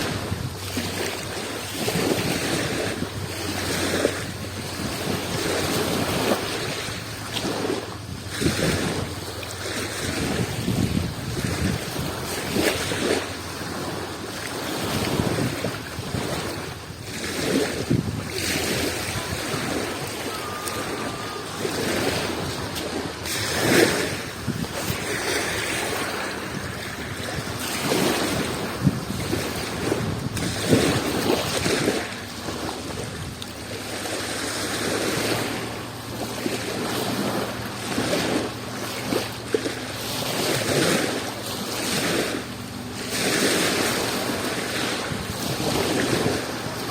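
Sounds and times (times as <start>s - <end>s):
sea waves breaking ashore: 0.0s - 46.9s
sharp water splashes: 0.0s - 46.9s.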